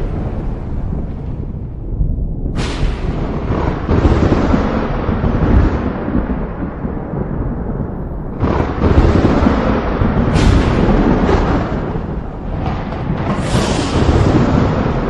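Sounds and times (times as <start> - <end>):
rain: 0.0 - 15.0
thunder rumbling: 0.0 - 15.0.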